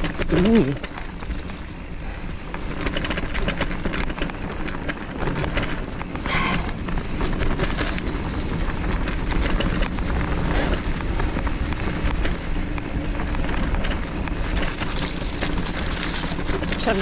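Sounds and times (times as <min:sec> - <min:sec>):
bike frame rattling: 0:00.0 - 0:17.0
bike tyres rolling: 0:00.0 - 0:17.0.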